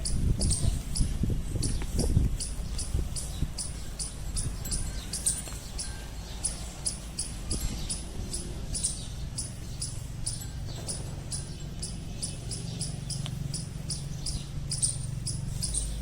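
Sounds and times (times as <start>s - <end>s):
steady low rumble: 0.0s - 16.0s
insect chirping: 2.7s - 16.0s.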